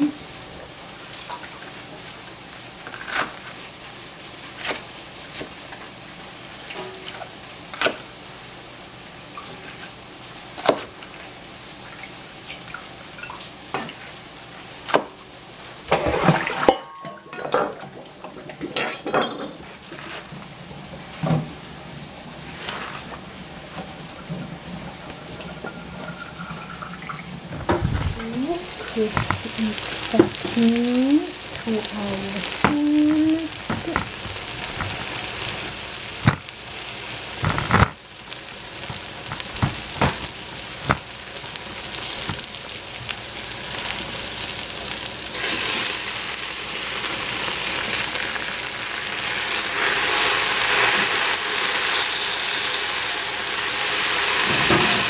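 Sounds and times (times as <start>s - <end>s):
vegetables sizzling in pot: 0.0s - 55.0s.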